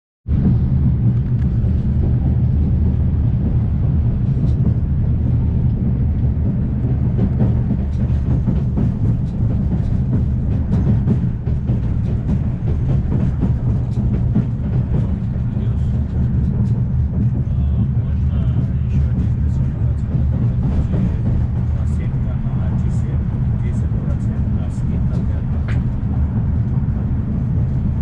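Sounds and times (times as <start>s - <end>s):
train interior rumble: 0.2s - 28.0s.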